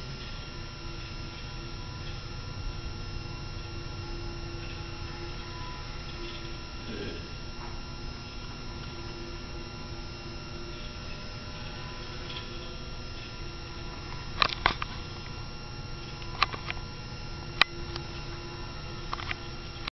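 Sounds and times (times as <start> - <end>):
small electric motor hum: 0.0 - 19.9.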